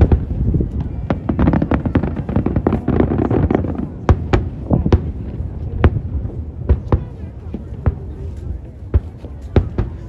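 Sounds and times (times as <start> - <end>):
fireworks crackling bangs: 0.0 - 10.0.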